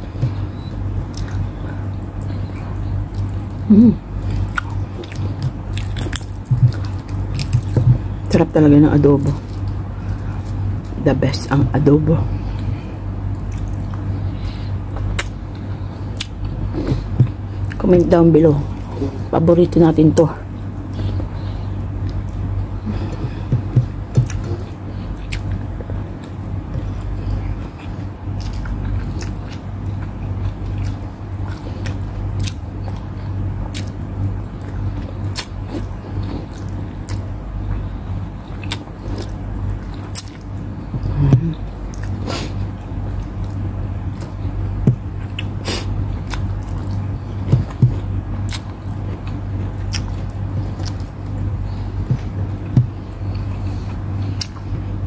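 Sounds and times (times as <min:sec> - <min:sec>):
steady low hum: 0:00.0 - 0:55.0
chewing and biting food: 0:00.3 - 0:08.2, 0:12.5 - 0:17.9, 0:20.8 - 0:54.9.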